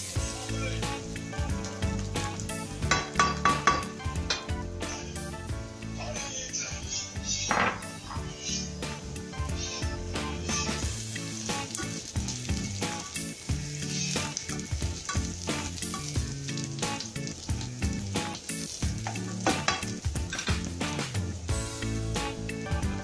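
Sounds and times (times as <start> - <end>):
background music: 0.0 - 23.0
onions sizzling in oil: 0.0 - 23.0.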